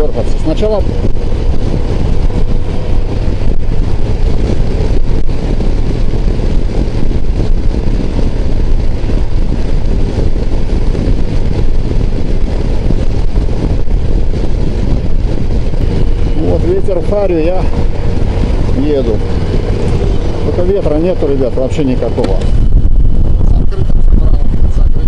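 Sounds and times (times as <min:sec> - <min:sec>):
motorcycle engine drone: 0:00.0 - 0:25.0
road and wind noise: 0:00.0 - 0:25.0.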